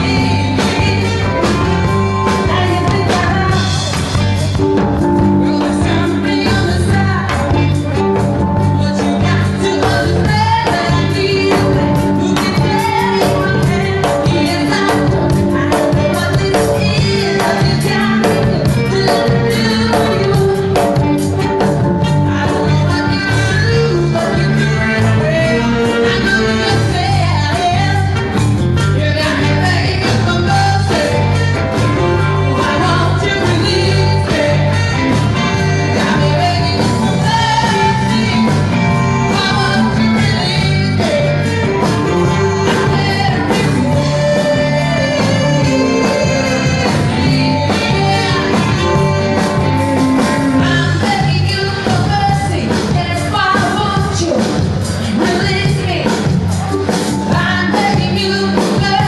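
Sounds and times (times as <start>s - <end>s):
band playing a song: 0.0s - 59.0s
person singing: 0.0s - 59.0s.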